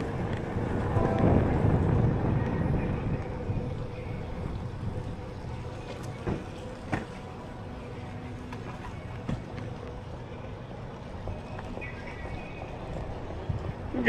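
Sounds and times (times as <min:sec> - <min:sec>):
city street rumble: 0:00.0 - 0:14.0.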